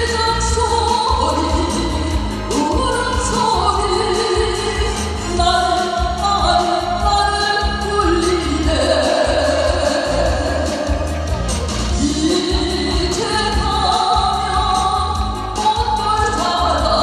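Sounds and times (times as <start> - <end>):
backing track with bass beat: 0.0 - 17.0
woman singing into a microphone: 0.0 - 17.0.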